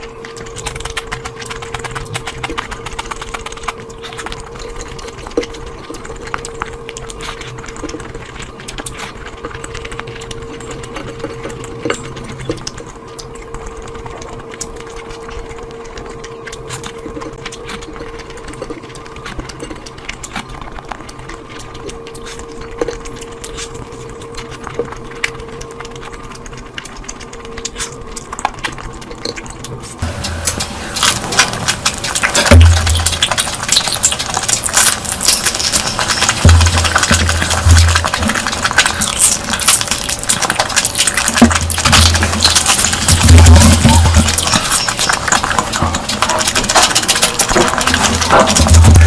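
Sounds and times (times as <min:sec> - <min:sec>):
chewing and mouth smacking: 0:00.0 - 0:49.0
steady hum: 0:00.0 - 0:49.0.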